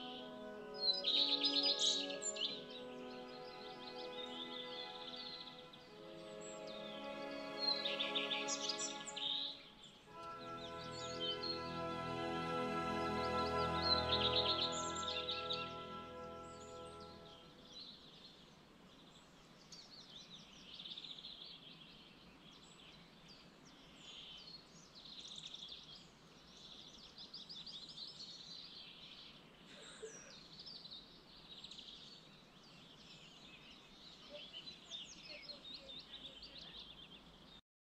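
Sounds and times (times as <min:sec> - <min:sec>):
faint steady hiss: 0:00.0 - 0:37.6
songbirds trilling and chirping: 0:00.0 - 0:37.6.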